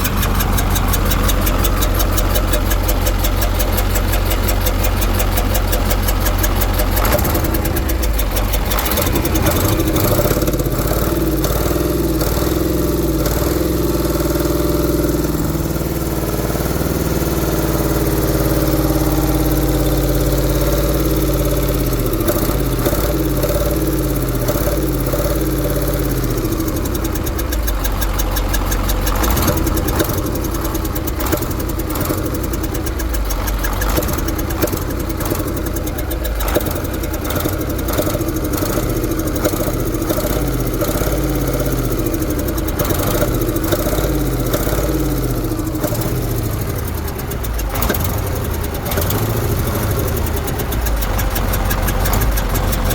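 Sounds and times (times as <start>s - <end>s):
knocking diesel truck engine: 0.0s - 52.9s.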